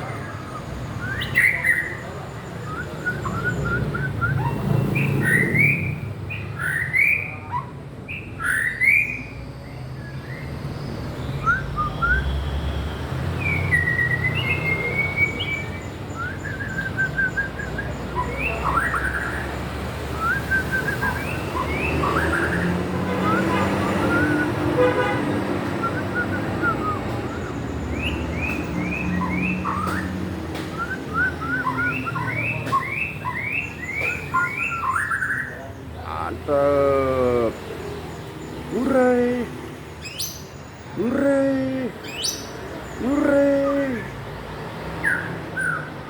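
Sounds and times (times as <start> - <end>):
bird whistles and trills: 0.1 - 24.8, 25.6 - 35.7, 40.0 - 41.0, 42.0 - 43.0, 44.9 - 46.0.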